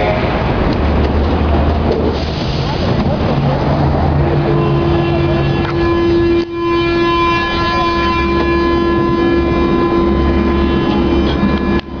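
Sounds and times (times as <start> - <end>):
moving train rumble: 0.0 - 12.0
metro train motor whine: 0.5 - 12.0.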